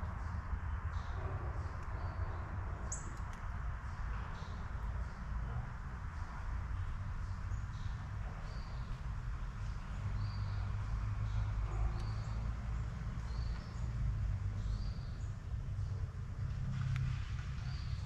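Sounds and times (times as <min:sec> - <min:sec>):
small birds chirping: 0:00.0 - 0:16.1, 0:17.3 - 0:18.0.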